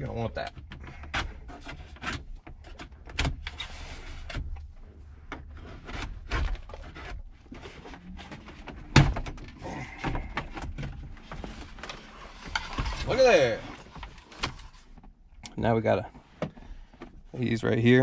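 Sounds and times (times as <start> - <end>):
plastic trim scraping: 0.6 - 15.2.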